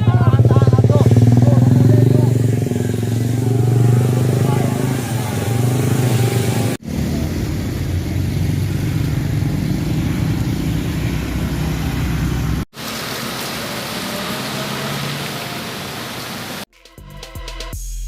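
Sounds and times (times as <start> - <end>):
vehicle engines running: 0.0 - 16.7.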